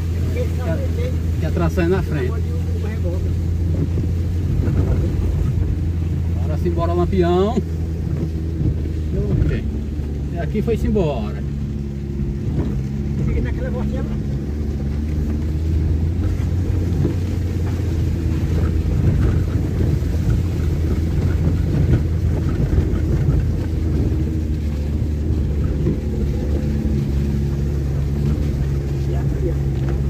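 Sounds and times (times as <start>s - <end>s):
car engine under load: 0.0s - 30.0s.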